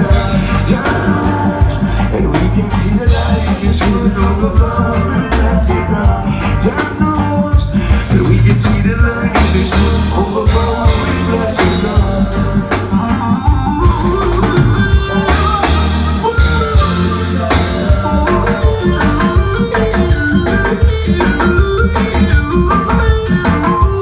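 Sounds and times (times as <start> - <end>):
reggae band playing: 0.0 - 24.0.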